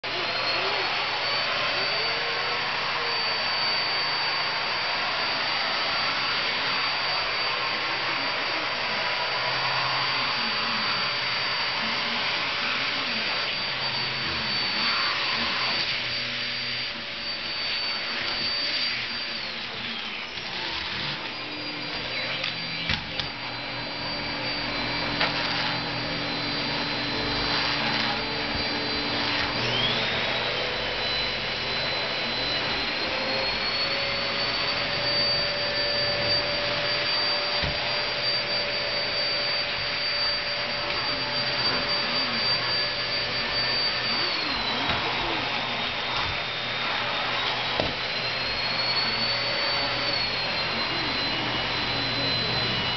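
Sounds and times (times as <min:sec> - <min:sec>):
vacuum cleaner whining: 0:00.0 - 0:52.9.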